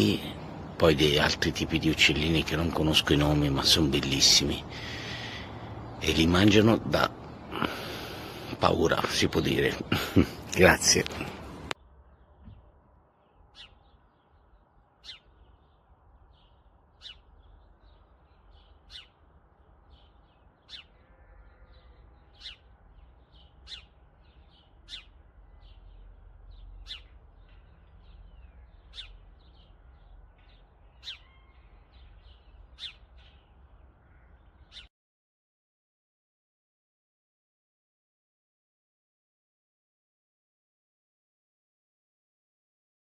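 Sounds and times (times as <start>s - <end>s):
soft bird chirps: 0.0s - 34.9s.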